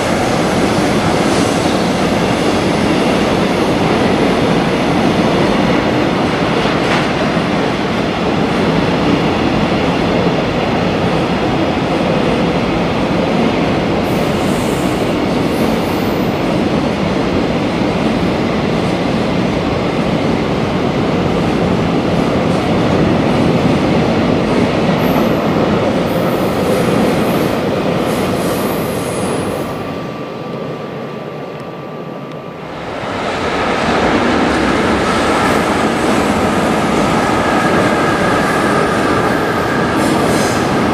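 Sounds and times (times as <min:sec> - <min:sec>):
freight train passing: 0:00.0 - 0:40.9.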